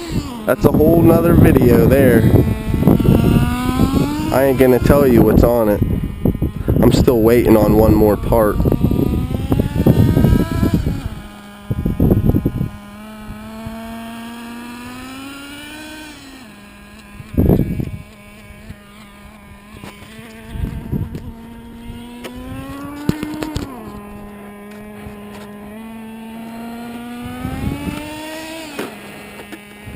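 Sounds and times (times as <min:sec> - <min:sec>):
small nitro engine buzzing: 0:00.0 - 0:29.9.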